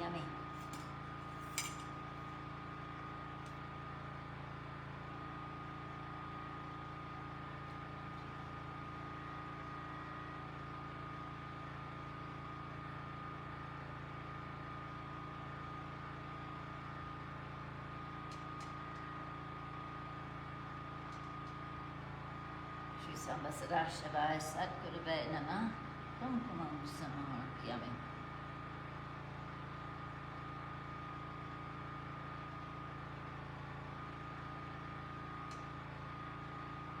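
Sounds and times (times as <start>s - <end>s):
generator humming: 0.0s - 37.0s.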